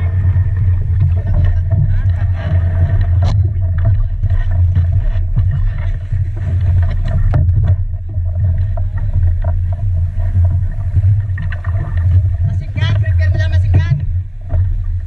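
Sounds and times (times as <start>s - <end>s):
hull and pole knocking: 0.0s - 14.9s
low rumble: 0.0s - 15.0s
water splashes: 0.0s - 15.0s.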